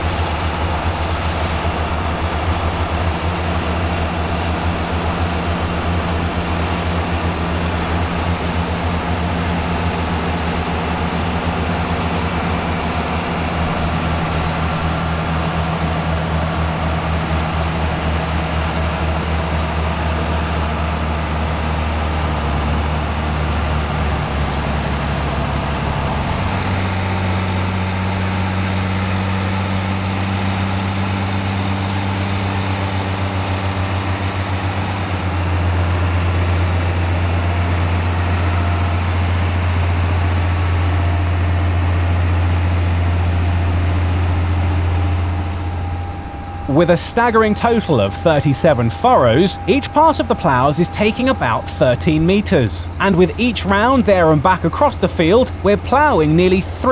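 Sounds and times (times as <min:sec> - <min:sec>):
tractor diesel engines droning: 0:00.0 - 0:56.9.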